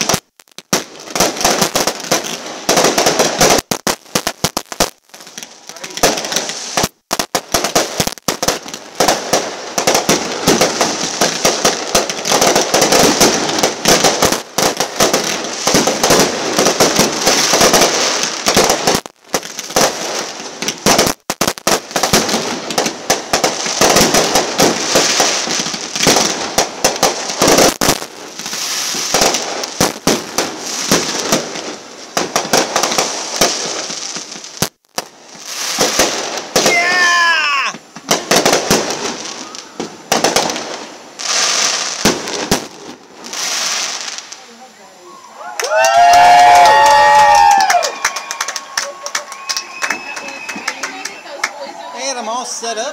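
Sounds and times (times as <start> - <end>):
fireworks bangs and pops: 0.0 - 44.8, 45.6 - 52.9
fireworks crackling: 0.0 - 52.9.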